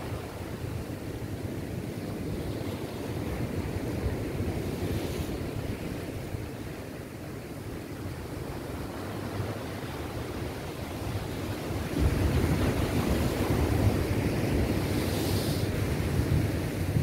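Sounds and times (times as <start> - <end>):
surf washing over rocks: 0.0 - 17.0
wind rumbling on microphone: 0.0 - 17.0.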